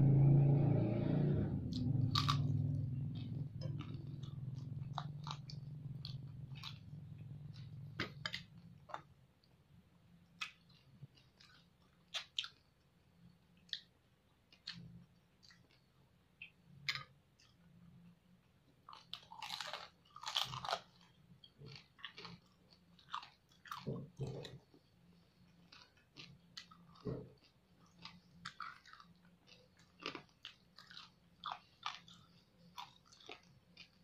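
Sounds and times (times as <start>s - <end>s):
chewing and crunching food: 1.7s - 34.0s.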